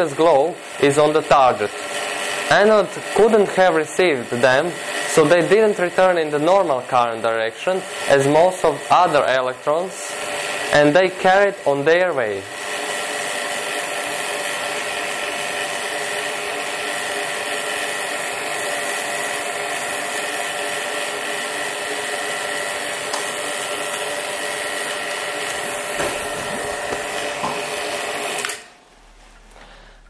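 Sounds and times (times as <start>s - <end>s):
vacuum pump running: 0.0s - 30.0s.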